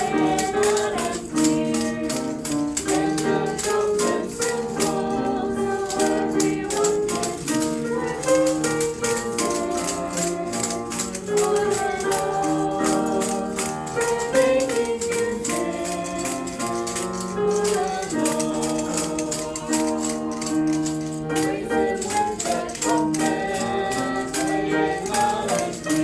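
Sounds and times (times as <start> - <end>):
children's praise song singing: 0.0 - 26.0
musical accompaniment: 0.0 - 26.0
shakers and tambourines rattling: 0.0 - 26.0.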